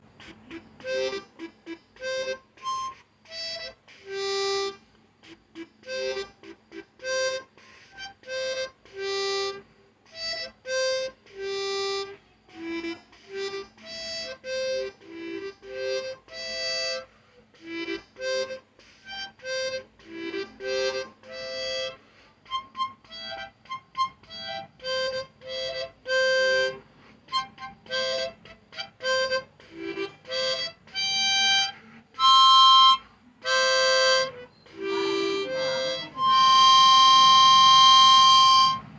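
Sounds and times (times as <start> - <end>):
harmonica playing short notes: 0.2 - 38.9.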